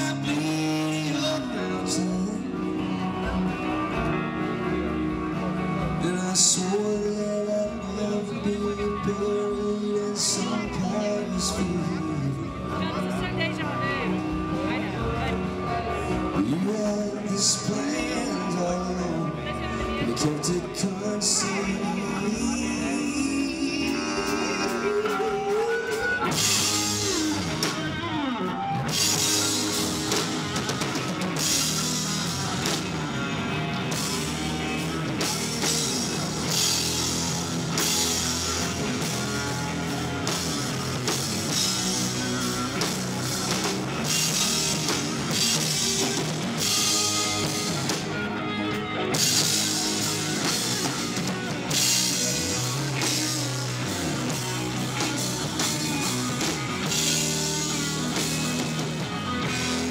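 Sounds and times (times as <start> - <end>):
drum kit: 0.0 - 59.9
electric guitars: 0.0 - 59.9.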